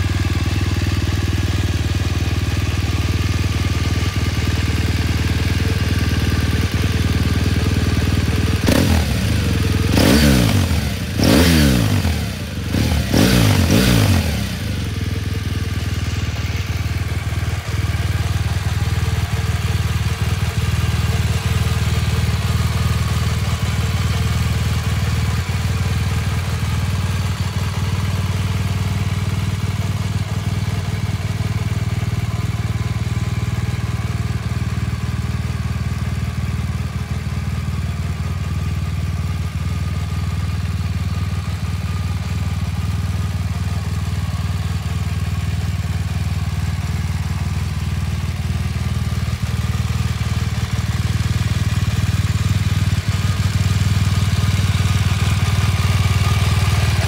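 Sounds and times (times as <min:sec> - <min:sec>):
motorcycle engine revving and idling: 0:00.0 - 0:57.0.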